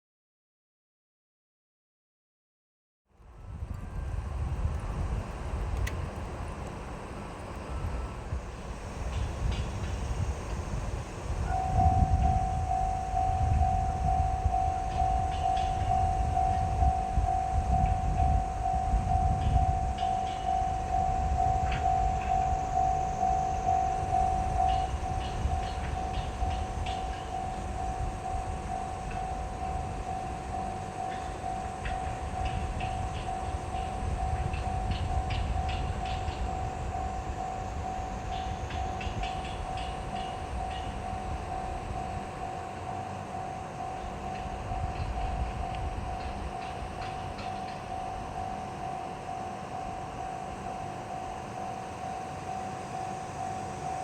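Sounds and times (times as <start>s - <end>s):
diesel train rumbling past: 3.1s - 54.0s
level-crossing alarm ringing: 7.4s - 54.0s.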